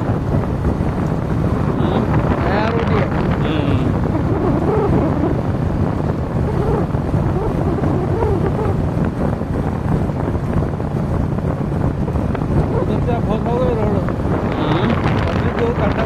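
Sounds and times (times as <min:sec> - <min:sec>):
road traffic rumble: 0:00.0 - 0:16.0
wind buffeting microphone: 0:00.0 - 0:16.0.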